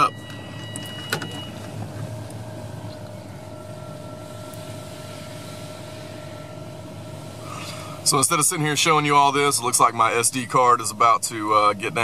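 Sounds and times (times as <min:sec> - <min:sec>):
car wash machinery hum: 0:00.0 - 0:12.0
constant whine: 0:00.0 - 0:12.0
higher whine: 0:00.0 - 0:12.0.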